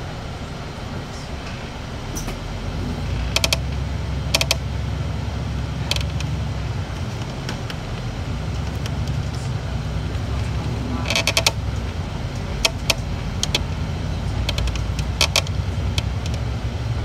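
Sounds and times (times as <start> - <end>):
bus body rattling: 0.0 - 17.0
bus engine and road rumble: 0.0 - 17.0.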